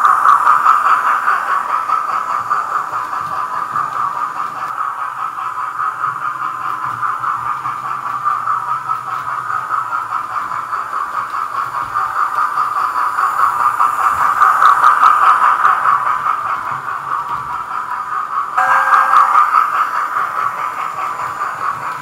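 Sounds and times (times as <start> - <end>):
model train steam chuffing: 0.0 - 22.0.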